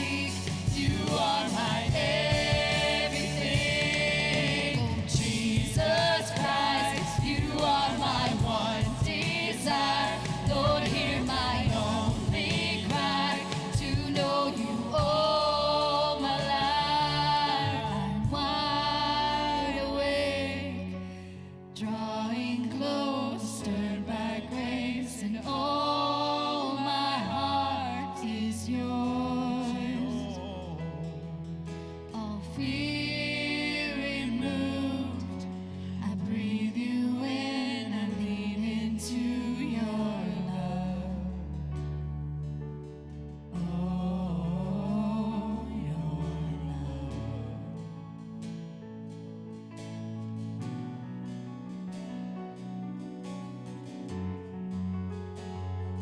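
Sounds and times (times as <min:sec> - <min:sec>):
gospel singing with band: 0:00.0 - 0:42.0, 0:43.5 - 0:48.1.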